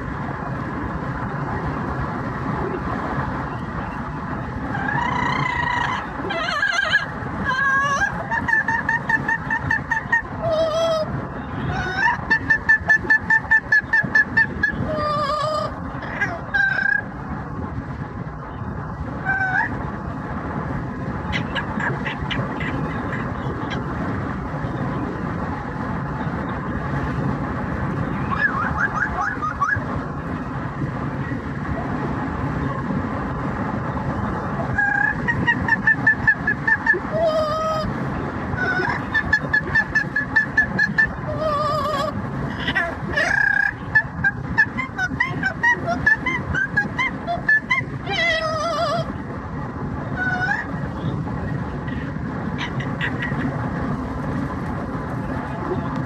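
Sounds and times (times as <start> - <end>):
low rumble of road noise: 0.0 - 56.0.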